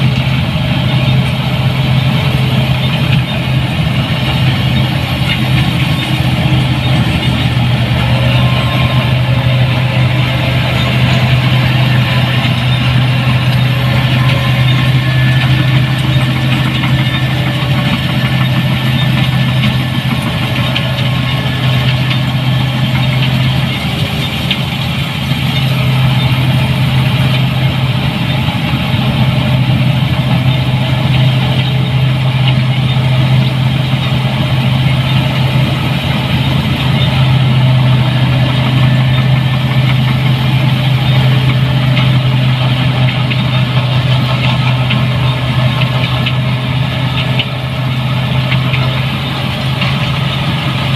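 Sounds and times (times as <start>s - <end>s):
combine harvester engine drone: 0.0s - 50.9s.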